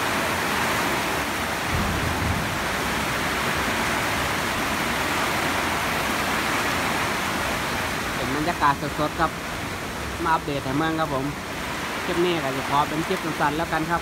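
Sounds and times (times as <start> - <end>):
heavy rain on road and trees: 0.0 - 14.0.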